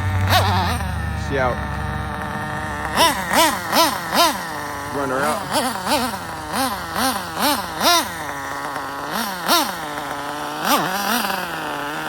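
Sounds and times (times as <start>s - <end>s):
nitro engine revving: 0.0s - 12.0s.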